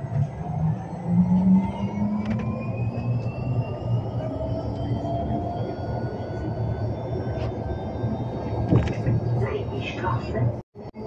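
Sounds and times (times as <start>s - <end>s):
bus low rumble: 0.0s - 11.0s.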